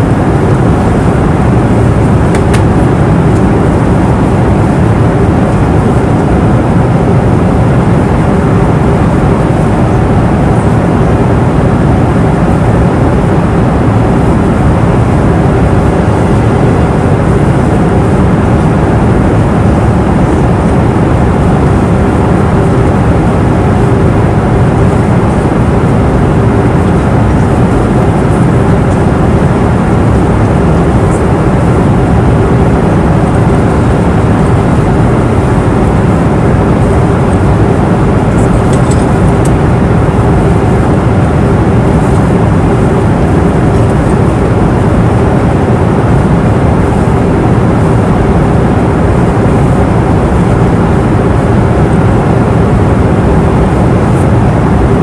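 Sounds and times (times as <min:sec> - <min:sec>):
airplane cabin engine noise: 0:00.0 - 0:55.0
faint steady hum: 0:00.0 - 0:55.0.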